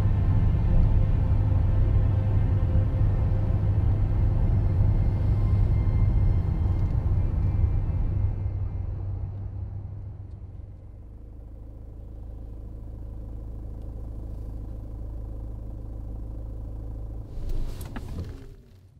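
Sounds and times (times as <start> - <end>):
car engine rumble inside cabin: 0.0 - 18.9.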